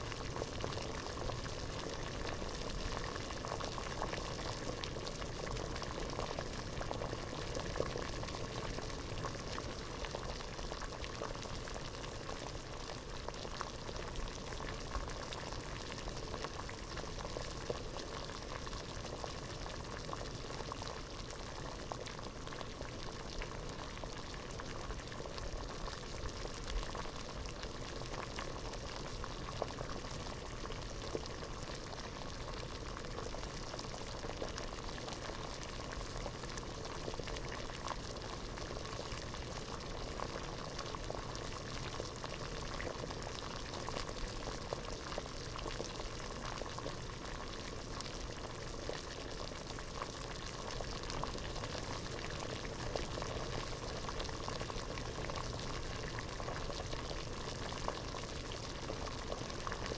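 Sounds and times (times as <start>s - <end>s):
water boiling in a pot: 0.0s - 59.9s.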